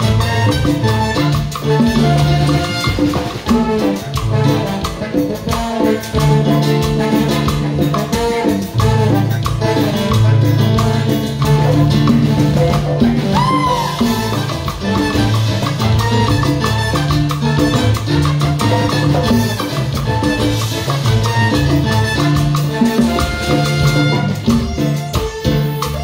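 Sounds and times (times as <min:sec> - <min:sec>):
congas: 0:00.0 - 0:26.0
cumbia band playing: 0:00.0 - 0:26.0
low bass line: 0:00.0 - 0:26.0
trumpet and saxophone section: 0:00.0 - 0:26.0.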